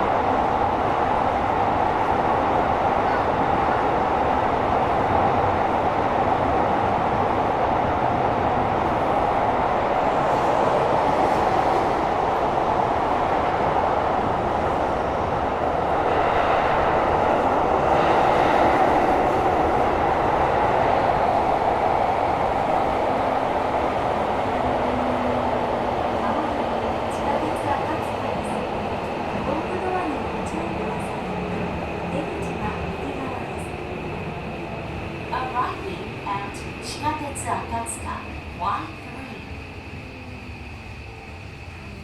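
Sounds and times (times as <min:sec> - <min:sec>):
subway train wheels on rail: 0:00.0 - 0:42.0.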